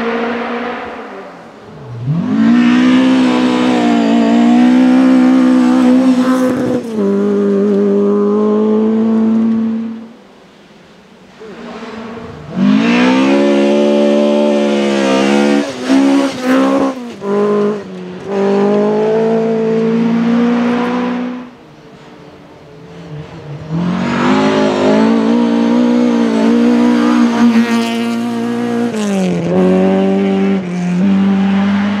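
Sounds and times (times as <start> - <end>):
rally car engine at high revs: 0.0 - 10.2, 11.3 - 22.1, 22.8 - 32.0.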